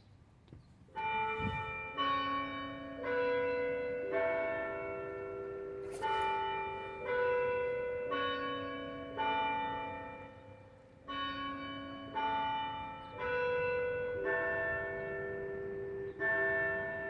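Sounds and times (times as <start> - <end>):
church bells ringing: 0.9 - 17.0.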